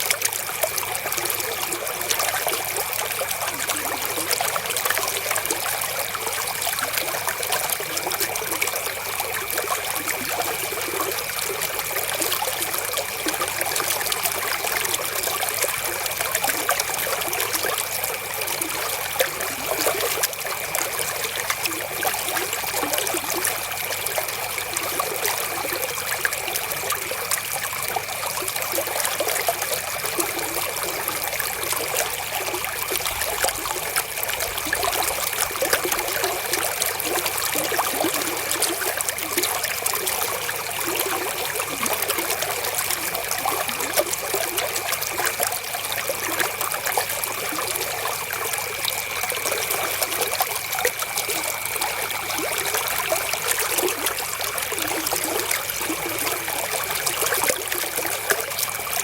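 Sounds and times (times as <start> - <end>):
river water trickling: 0.0 - 59.0.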